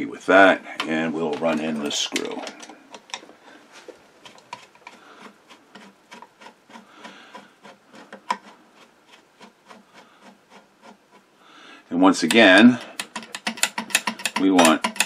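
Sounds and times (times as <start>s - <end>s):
screwdriver ticking and scraping: 0.7s - 3.3s, 4.2s - 11.3s, 12.1s - 15.0s.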